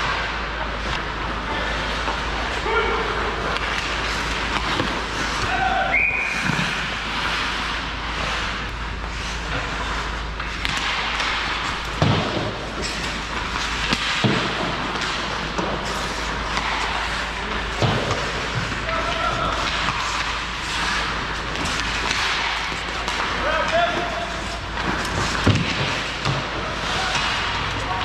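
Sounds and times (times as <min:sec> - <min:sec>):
skates and sticks on ice: 0:00.0 - 0:28.0.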